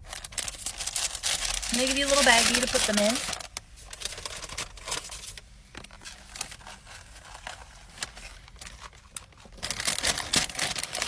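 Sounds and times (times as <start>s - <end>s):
paper bag rustling and crinkling: 0.0s - 11.0s.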